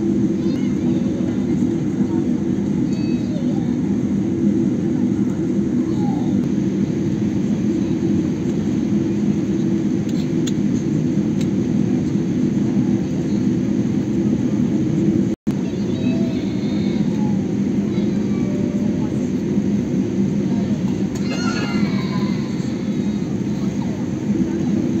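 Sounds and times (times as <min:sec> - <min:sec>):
jet engine and cabin rumble: 0:00.0 - 0:25.0.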